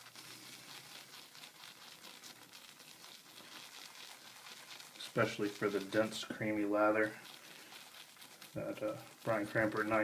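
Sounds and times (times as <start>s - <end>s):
shaving brush swirling on soap: 0.0s - 10.0s.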